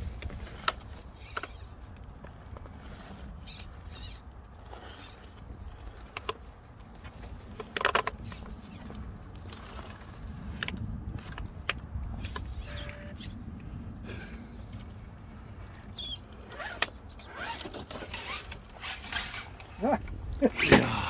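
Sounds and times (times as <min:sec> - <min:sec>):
wind rumble on microphone: 0:00.0 - 0:17.2, 0:18.2 - 0:21.0
stones scraping under tyres: 0:00.0 - 0:21.0.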